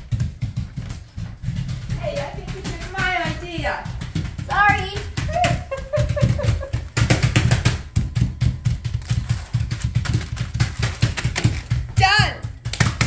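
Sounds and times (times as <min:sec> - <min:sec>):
fists pounding nuts on stone counter: 0:00.0 - 0:13.0.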